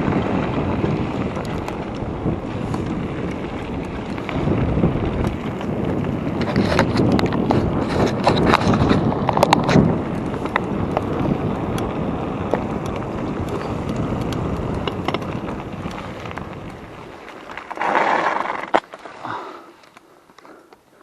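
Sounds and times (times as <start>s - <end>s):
wind noise on microphone: 0.0s - 18.8s
bike clicks and rattles: 0.0s - 21.0s
bike tyre rumbling: 0.0s - 21.0s.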